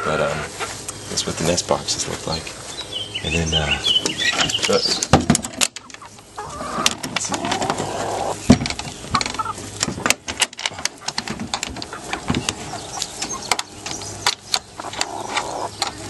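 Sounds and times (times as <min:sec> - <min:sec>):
chick chirping: 0:00.0 - 0:10.1, 0:10.8 - 0:16.0.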